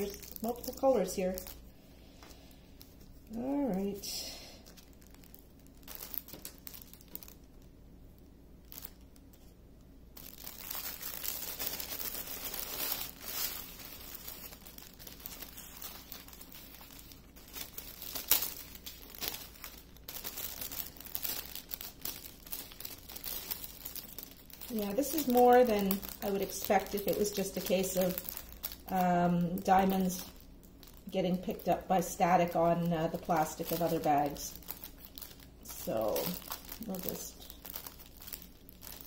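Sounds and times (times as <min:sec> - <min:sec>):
plastic bags crinkling: 0:00.0 - 0:39.0.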